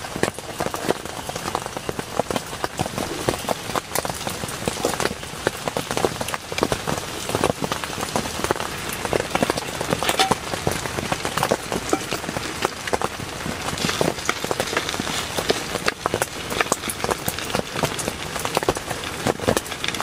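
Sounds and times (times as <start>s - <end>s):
heavy rain pattering: 0.0s - 20.0s.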